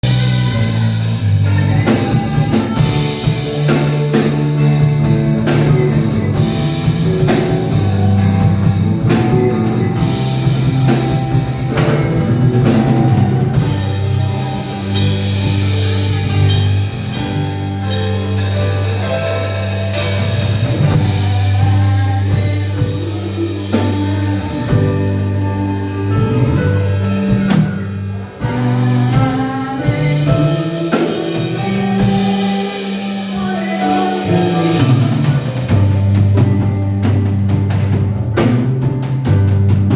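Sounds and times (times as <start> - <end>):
person singing: 0.0 - 38.6
band playing gospel music: 0.0 - 39.9.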